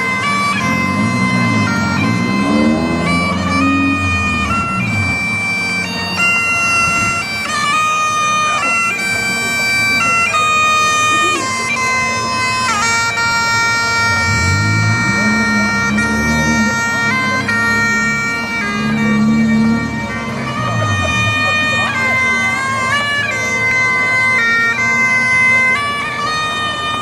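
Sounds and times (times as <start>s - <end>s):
bagpipes playing a melody: 0.0s - 27.0s.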